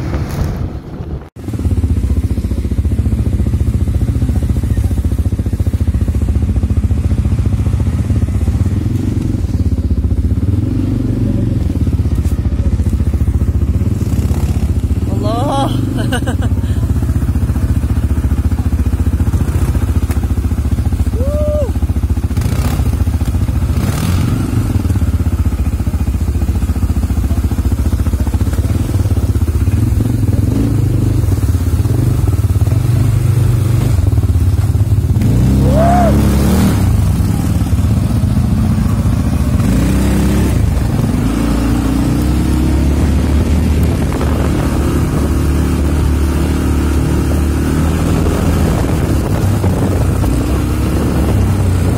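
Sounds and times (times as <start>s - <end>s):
quad bike engine running: 0.0s - 51.9s.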